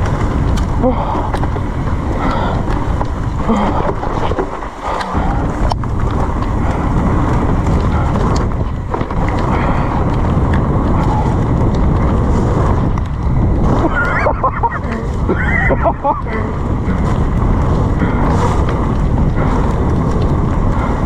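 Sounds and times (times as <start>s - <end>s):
bike rattling and knocking: 0.0s - 21.0s
bike tyre noise: 0.0s - 21.0s
wind buffeting microphone: 0.0s - 21.0s.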